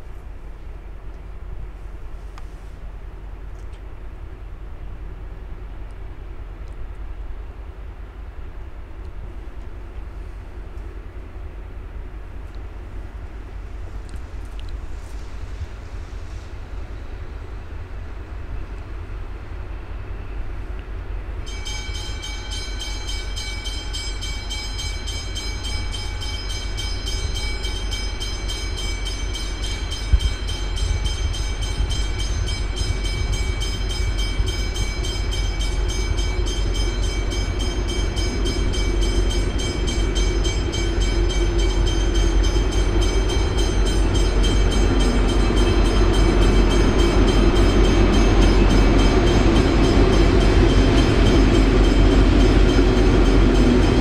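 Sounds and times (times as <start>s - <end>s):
diesel locomotive rumbling: 0.0s - 54.0s.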